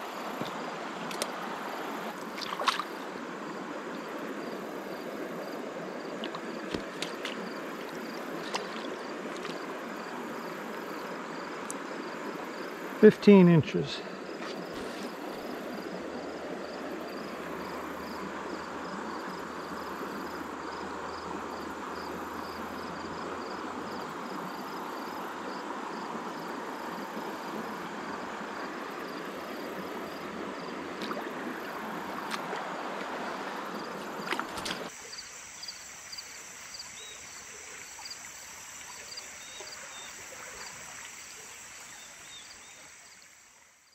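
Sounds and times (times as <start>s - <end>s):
creek water running: 0.0s - 43.8s
insects chirping: 0.0s - 43.9s.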